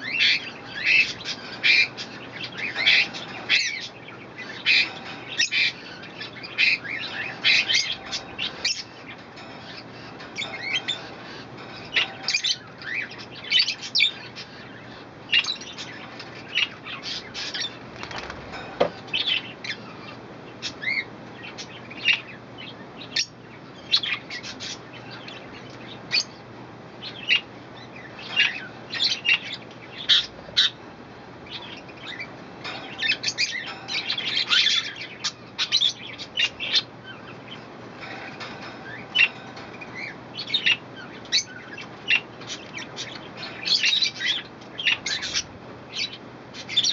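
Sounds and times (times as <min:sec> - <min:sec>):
budgerigars chirping: 0:00.0 - 0:26.4, 0:27.0 - 0:30.8, 0:31.4 - 0:46.9.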